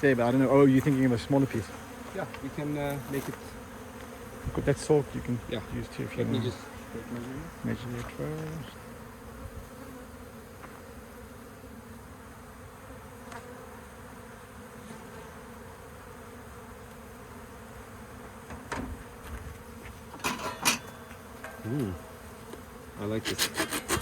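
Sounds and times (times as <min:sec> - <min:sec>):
honey bees buzzing: 0:00.0 - 0:24.0.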